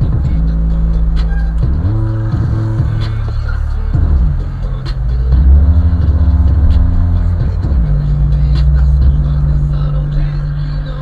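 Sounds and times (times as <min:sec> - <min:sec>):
rap music on car sound system: 0:00.0 - 0:11.0.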